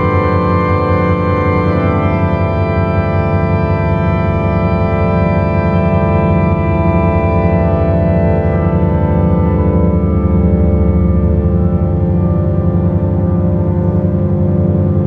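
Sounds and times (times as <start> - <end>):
sustained drone chord: 0.0 - 15.0.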